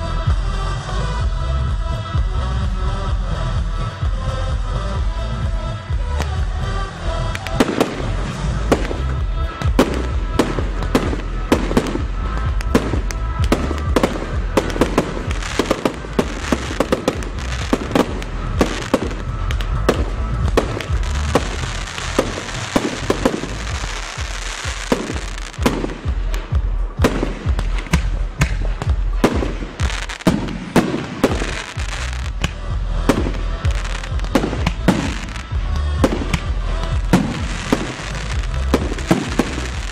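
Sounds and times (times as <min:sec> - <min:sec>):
fireworks crackling: 0:00.0 - 0:39.9
fireworks launching and bursting: 0:00.0 - 0:39.9
music with steady bass: 0:00.0 - 0:39.9.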